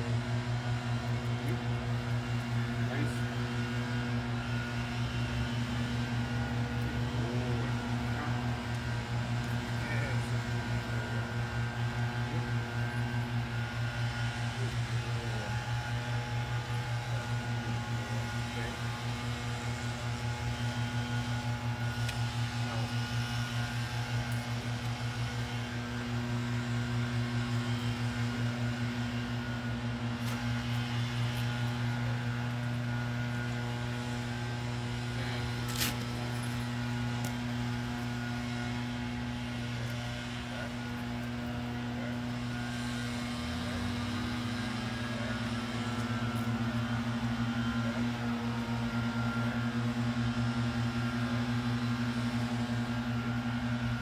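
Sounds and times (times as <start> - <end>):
pulsing engine drone: 0.0 - 54.0.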